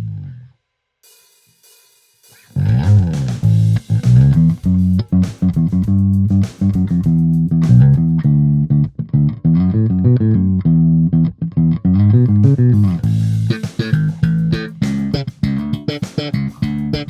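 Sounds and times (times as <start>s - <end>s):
electric bass guitar plucked notes: 0.0s - 0.5s, 2.6s - 17.0s.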